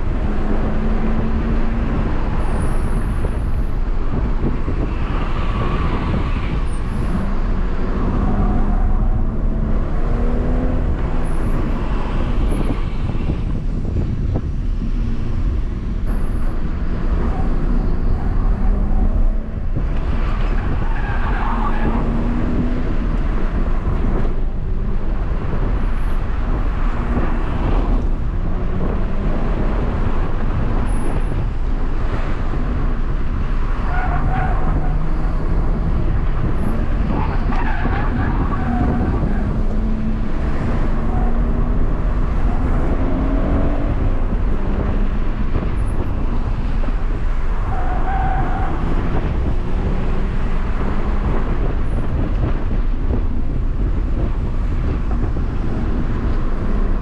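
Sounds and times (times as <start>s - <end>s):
car engine revving: 0.0s - 57.0s
road and tyre noise: 0.0s - 57.0s.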